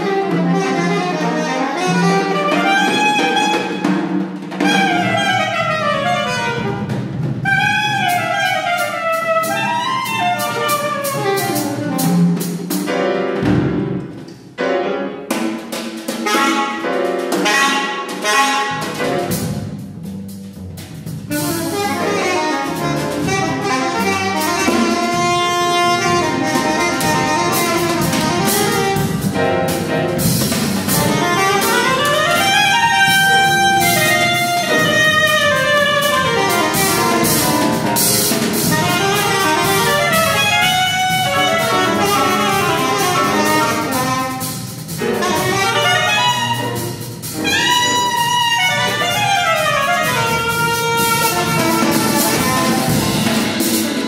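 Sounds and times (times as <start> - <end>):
saxophone: 0.0 - 12.6, 16.2 - 19.3, 21.2 - 29.8, 30.8 - 54.0
drum kit and cymbals: 0.0 - 54.0.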